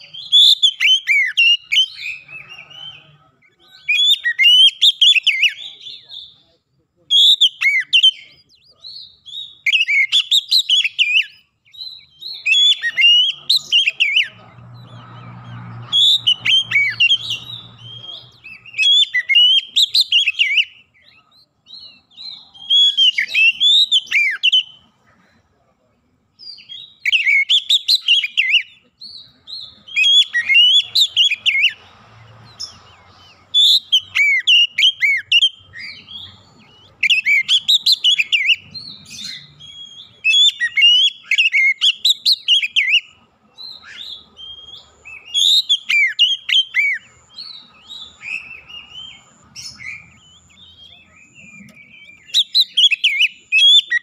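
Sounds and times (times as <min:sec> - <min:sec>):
bird singing whistled notes: 0:00.0 - 0:24.9, 0:26.4 - 0:54.0.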